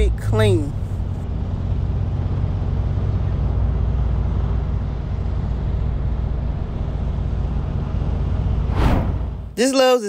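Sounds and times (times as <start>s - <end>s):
car engine rumbling: 0.0s - 9.6s
road and wind noise: 0.0s - 9.6s.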